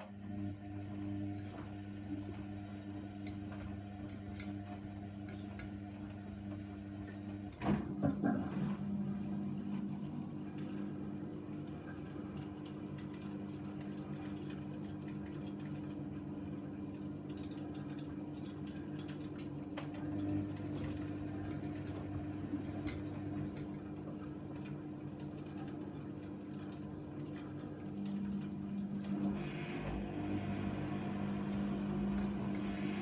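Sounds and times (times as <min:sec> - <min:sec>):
washing machine motor hum: 0:00.0 - 0:33.0
water moving in machine: 0:00.0 - 0:33.0.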